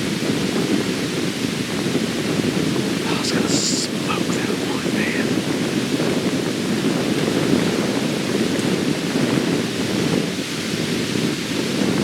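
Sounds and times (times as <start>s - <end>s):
strong wind across microphone: 0.0s - 12.0s.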